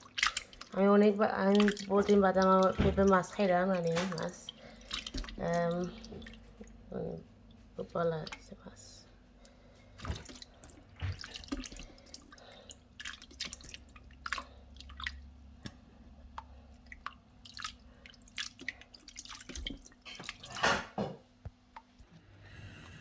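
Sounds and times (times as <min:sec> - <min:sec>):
wet clicks and drips: 0:00.0 - 0:08.6, 0:09.4 - 0:20.8.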